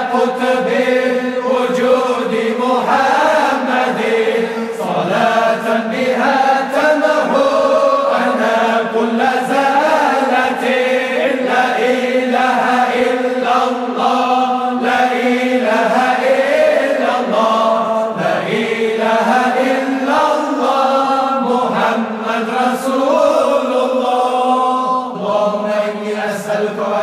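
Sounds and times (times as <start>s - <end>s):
voices chanting together: 0.0s - 27.0s.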